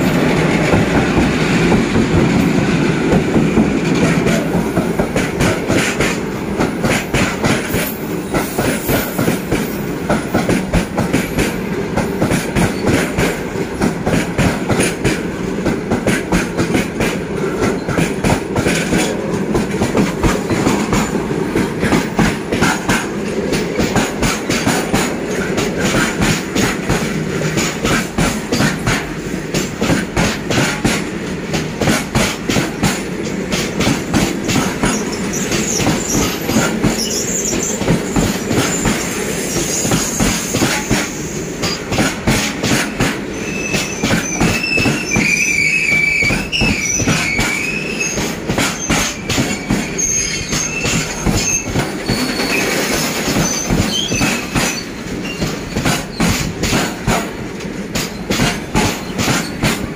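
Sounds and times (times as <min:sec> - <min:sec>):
train wheels clacking over rail joints: 0:00.0 - 0:59.9.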